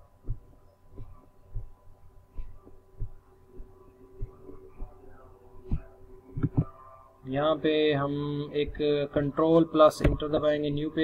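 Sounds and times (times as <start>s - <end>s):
faint steady hum: 0.0s - 11.0s
soft low thumps: 0.0s - 11.0s.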